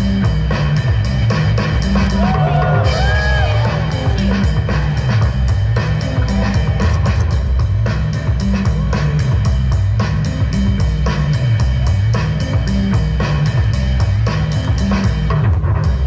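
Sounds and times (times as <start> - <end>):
heavy bass: 0.0 - 16.0
loud music with fast drum beat: 0.0 - 16.0.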